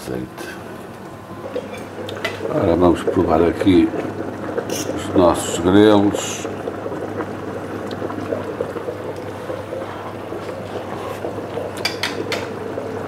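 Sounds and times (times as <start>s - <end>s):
pot boiling and bubbling: 0.0s - 13.0s.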